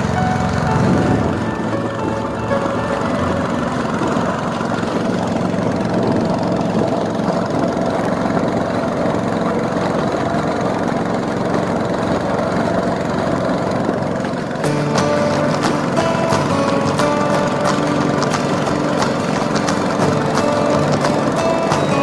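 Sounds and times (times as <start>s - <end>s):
boat motor drone: 0.0s - 22.0s
water rushing around hull: 0.0s - 22.0s
wind: 0.0s - 22.0s.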